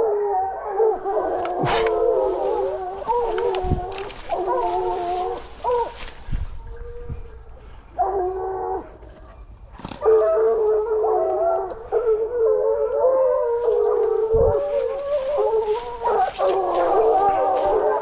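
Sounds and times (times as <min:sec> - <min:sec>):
hounds baying: 0:00.0 - 0:09.4, 0:10.0 - 0:18.0.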